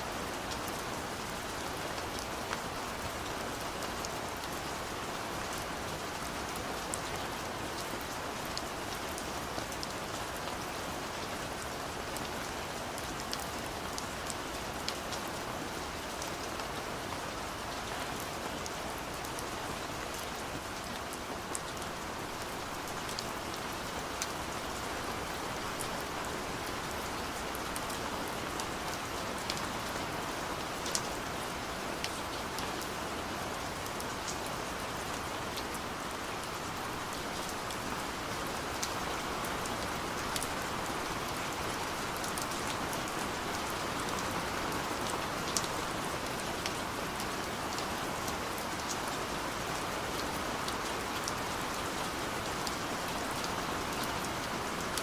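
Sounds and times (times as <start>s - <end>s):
rain drips and patters: 0.0s - 55.0s
steady rain hiss: 0.0s - 55.0s.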